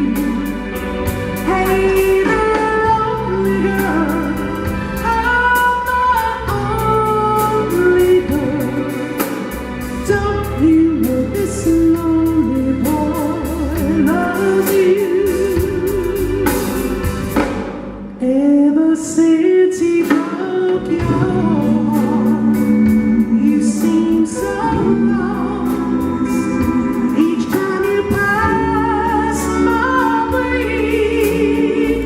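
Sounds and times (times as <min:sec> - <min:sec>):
slow soul ballad: 0:00.0 - 0:32.0.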